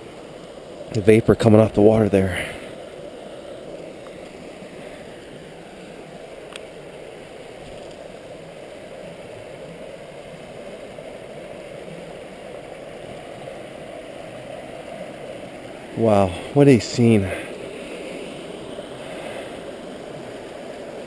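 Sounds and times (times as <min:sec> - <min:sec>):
river rapids rushing: 0:02.1 - 0:21.0.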